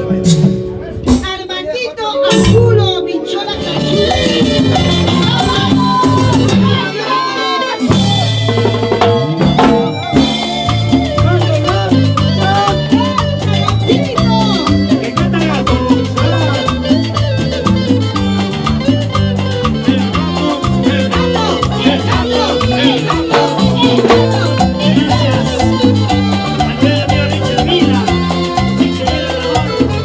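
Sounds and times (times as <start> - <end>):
salsa band playing: 0.0 - 30.0.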